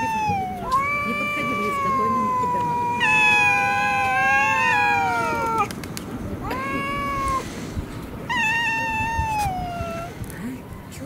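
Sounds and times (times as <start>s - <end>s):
cats caterwauling: 0.0s - 5.7s, 6.4s - 7.6s, 8.2s - 10.2s.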